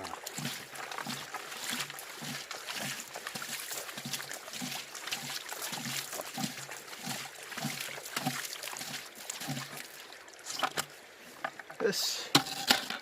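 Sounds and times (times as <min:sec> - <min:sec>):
water sloshing in pan: 0:00.0 - 0:11.7.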